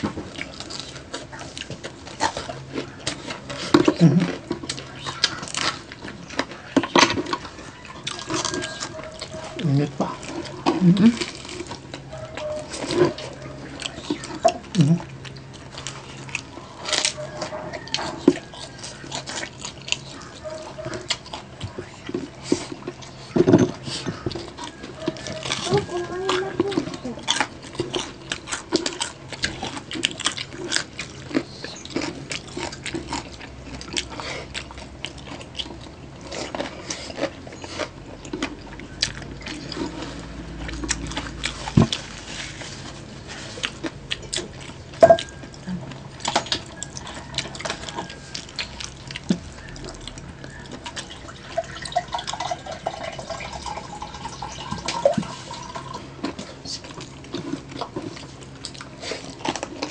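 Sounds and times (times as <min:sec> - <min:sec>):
wet chewing and lip smacking: 0:00.0 - 0:59.9.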